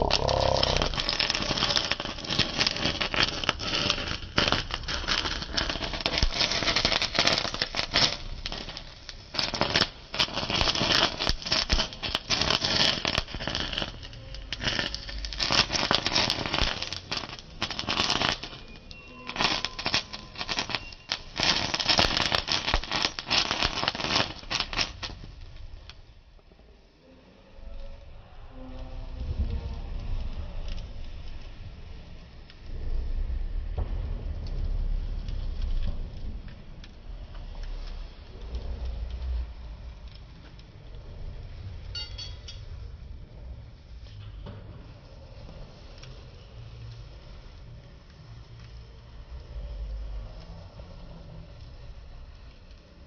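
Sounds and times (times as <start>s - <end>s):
sparkler crackling and fizzing: 0.0s - 26.4s, 29.0s - 42.1s, 42.7s - 53.0s.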